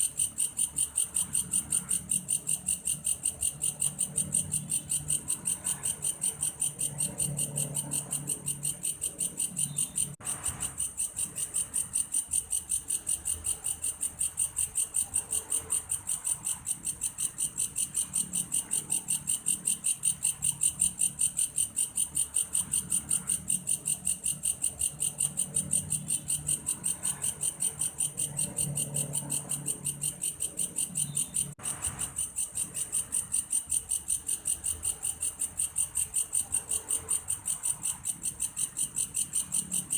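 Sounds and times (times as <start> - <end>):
insect pulsed trill: 0.0 - 39.9.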